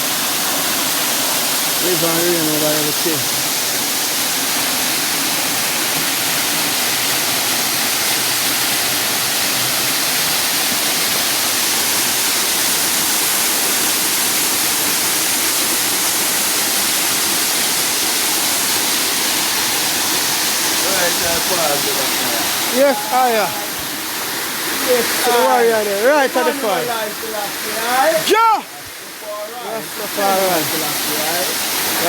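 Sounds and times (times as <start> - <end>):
waterfall and river rushing: 0.0 - 32.0.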